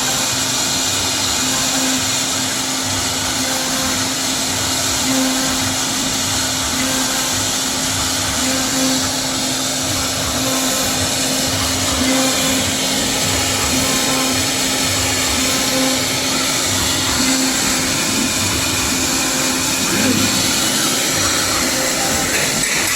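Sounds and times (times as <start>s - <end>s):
router spindle cutting wood: 0.0s - 22.9s.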